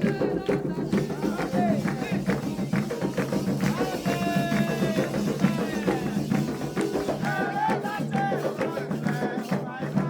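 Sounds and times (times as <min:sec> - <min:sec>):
drums and percussion: 0:00.0 - 0:10.0
voices singing: 0:00.0 - 0:10.0.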